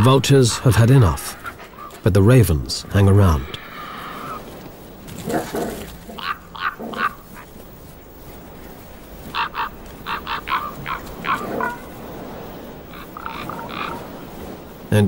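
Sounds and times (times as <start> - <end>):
ravens croaking: 0.0 - 15.0.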